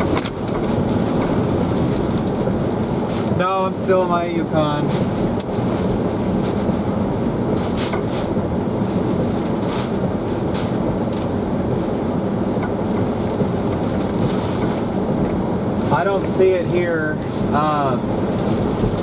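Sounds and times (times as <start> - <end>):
wind rumbling around a car: 0.0 - 19.0.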